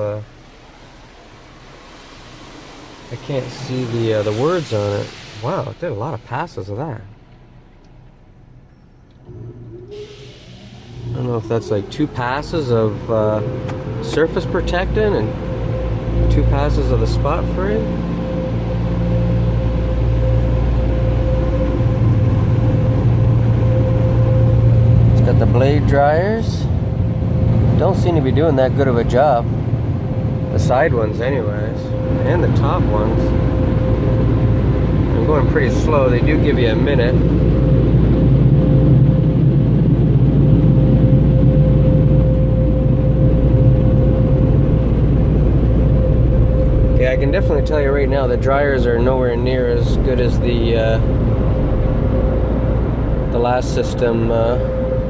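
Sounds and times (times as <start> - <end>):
car wash blowers humming: 0.0 - 55.0.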